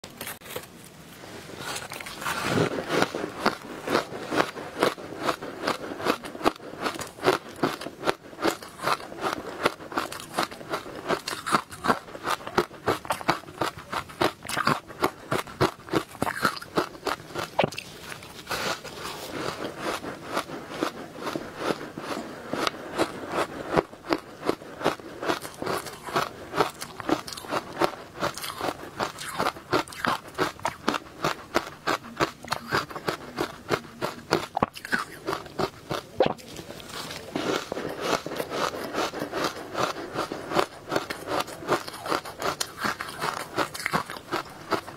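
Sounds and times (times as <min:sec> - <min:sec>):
chewing crunchy ice: 0:01.6 - 0:44.9.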